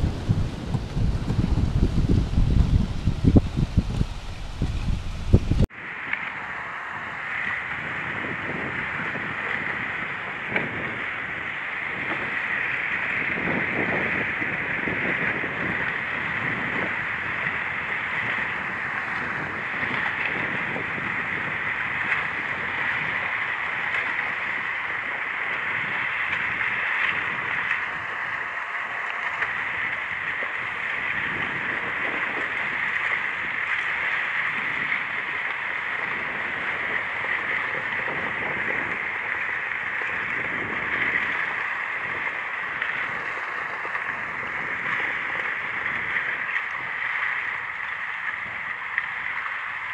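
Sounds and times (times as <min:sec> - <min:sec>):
kayak gliding through water: 0:00.0 - 0:49.9
wind buffeting microphone: 0:00.0 - 0:49.9.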